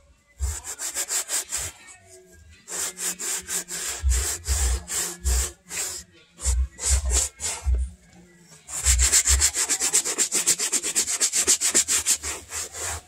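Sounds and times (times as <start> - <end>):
brush scrubbing suede: 0.4 - 1.7, 2.7 - 7.8, 8.7 - 13.0.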